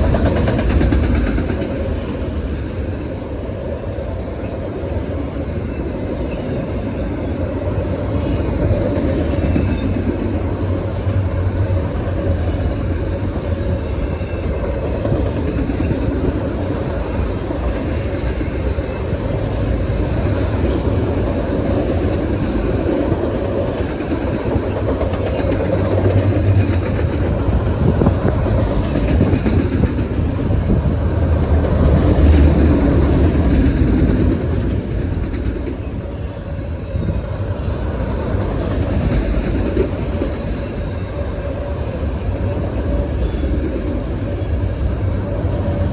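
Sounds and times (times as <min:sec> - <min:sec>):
train rumbling past: 0:00.0 - 0:45.9.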